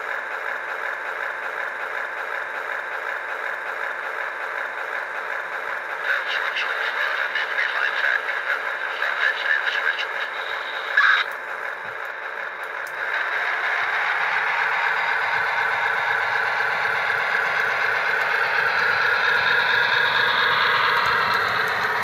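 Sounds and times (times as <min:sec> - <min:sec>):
model train rumbling on track: 0:00.0 - 0:22.0.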